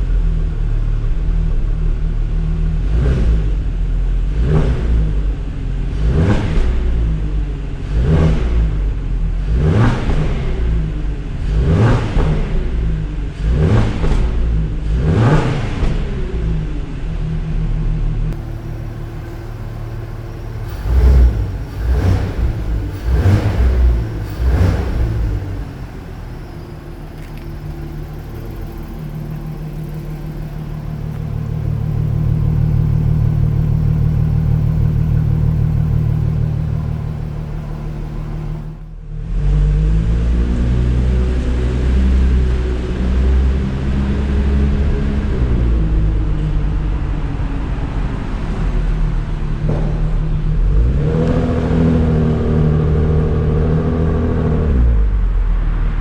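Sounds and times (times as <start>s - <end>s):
car engine revving in blips: 2.5s - 17.2s, 18.3s - 55.4s.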